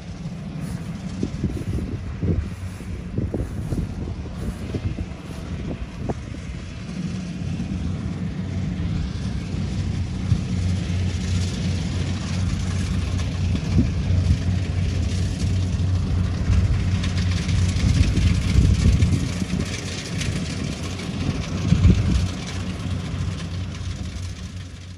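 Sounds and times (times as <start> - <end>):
combine harvester running: 0.0 - 24.9.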